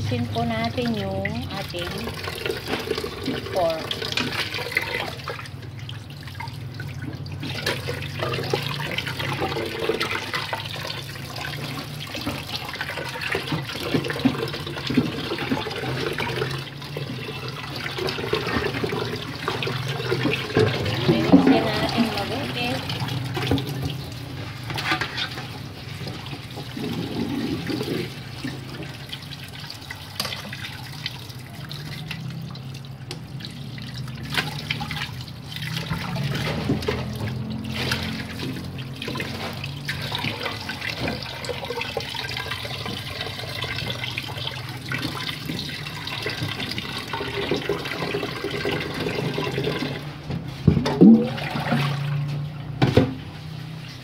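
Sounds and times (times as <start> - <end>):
water sloshing in a pot: 0.0 - 54.0.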